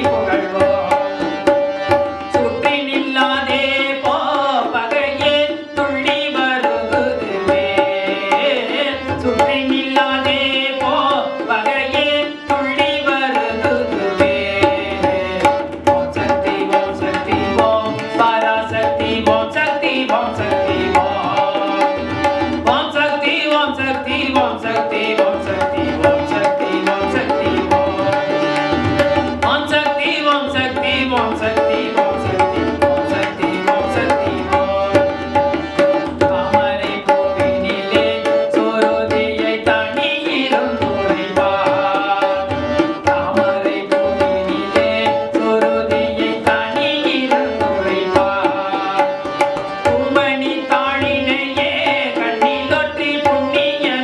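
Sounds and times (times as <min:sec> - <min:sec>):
harmonium drone: 0:00.0 - 0:54.0
man singing: 0:00.0 - 0:54.0
tabla rhythm: 0:00.0 - 0:54.0.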